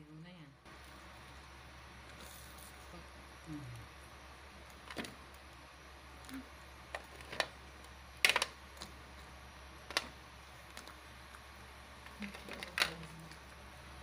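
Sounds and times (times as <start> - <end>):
sharp pops and crackles: 0.7 - 13.7.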